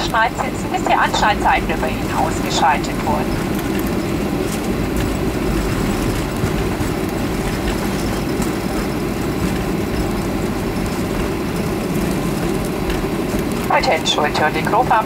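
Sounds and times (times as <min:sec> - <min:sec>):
jet engines running: 0:00.0 - 0:15.0
wheels rolling on pavement: 0:00.0 - 0:15.0.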